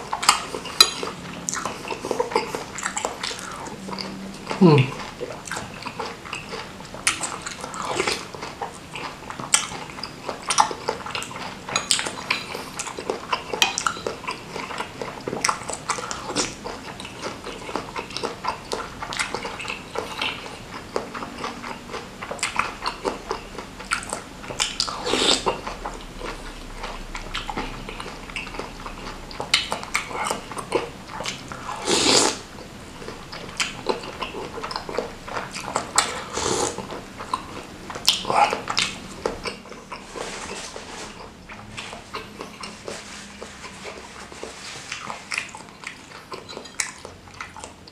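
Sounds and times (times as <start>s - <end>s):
person chewing: 0.0s - 47.9s
slurping: 0.1s - 47.8s.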